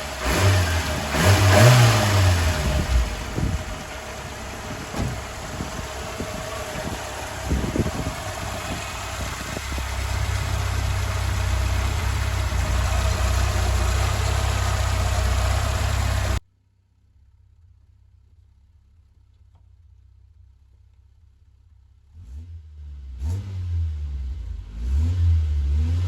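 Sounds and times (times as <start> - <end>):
car engine idling: 0.0 - 22.2.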